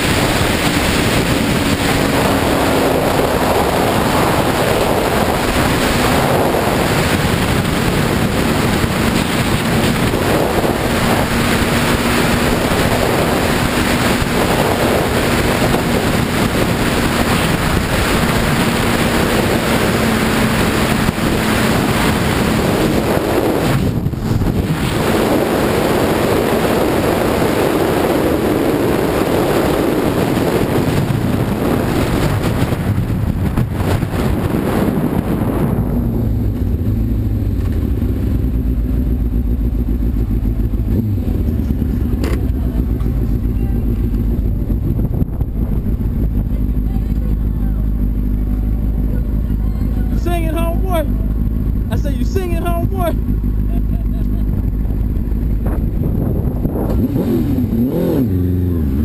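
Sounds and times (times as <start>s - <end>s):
motorcycle engine drone: 0.0s - 59.0s
wind rushing over microphone: 0.0s - 59.0s.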